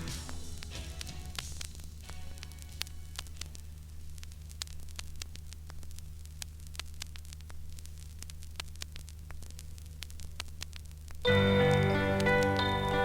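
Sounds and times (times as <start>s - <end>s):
vinyl crackles and pops: 0.0s - 13.0s.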